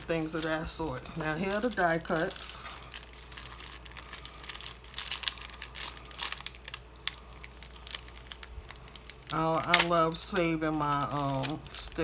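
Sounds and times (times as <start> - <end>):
plastic and paper crinkling: 0.0 - 12.0.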